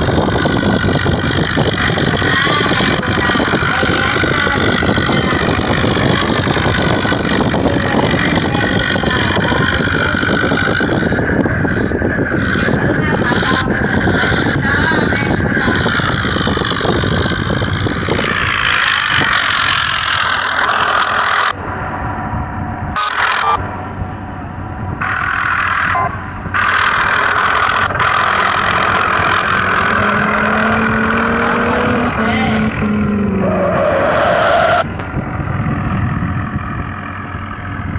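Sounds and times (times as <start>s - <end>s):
vehicle engine and road noise: 0.0s - 37.9s.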